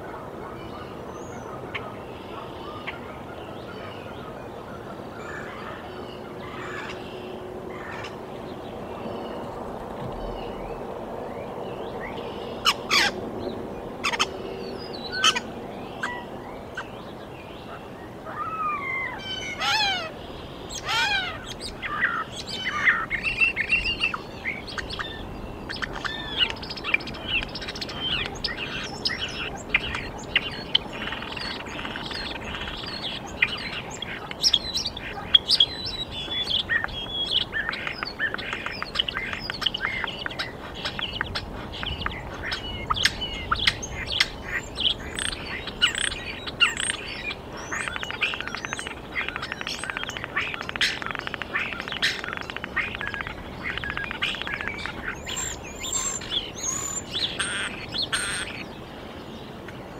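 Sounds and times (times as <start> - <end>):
wild birds chirping and singing: 0.0 - 59.9.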